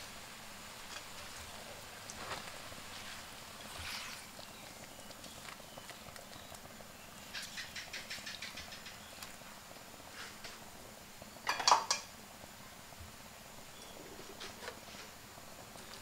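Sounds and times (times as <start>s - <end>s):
soup boiling and bubbling: 0.0s - 16.0s.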